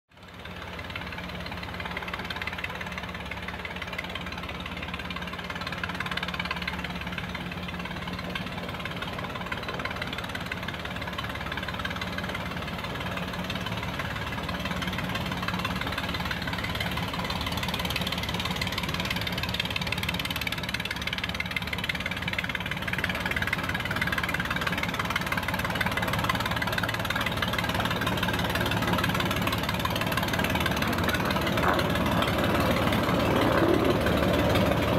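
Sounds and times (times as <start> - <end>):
diesel locomotive engine running: 0.1 - 34.9.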